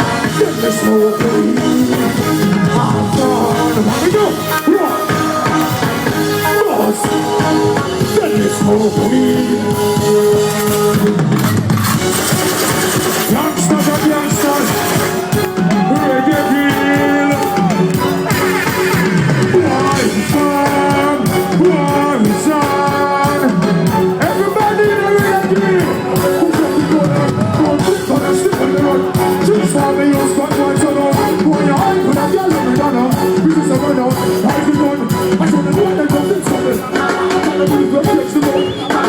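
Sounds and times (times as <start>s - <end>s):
man singing: 0.0s - 11.5s, 13.2s - 39.0s
live reggae band: 0.0s - 39.0s.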